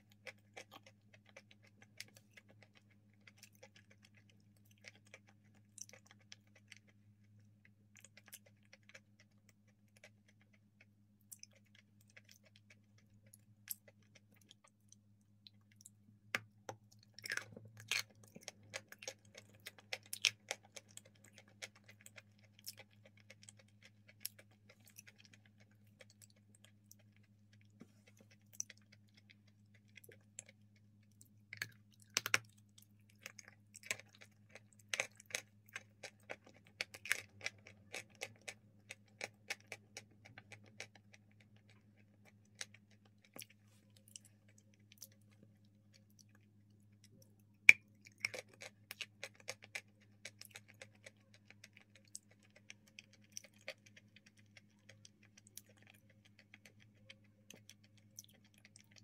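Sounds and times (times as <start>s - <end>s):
chewing and crunching: 0.0s - 59.0s
faint electrical hum: 0.0s - 59.0s.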